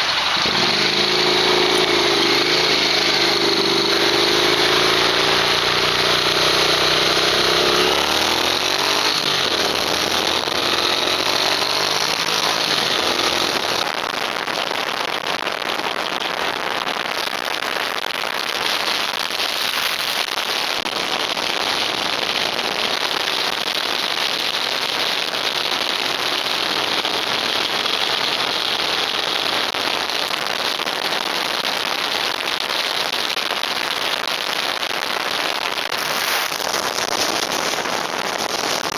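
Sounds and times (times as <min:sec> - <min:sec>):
vehicle engine: 0:00.0 - 0:38.9.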